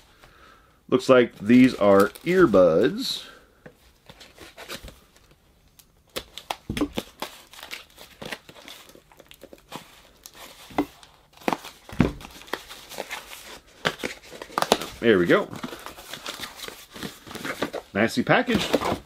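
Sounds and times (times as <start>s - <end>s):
packaging crinkling and tearing: 1.4s - 3.3s, 4.0s - 19.0s.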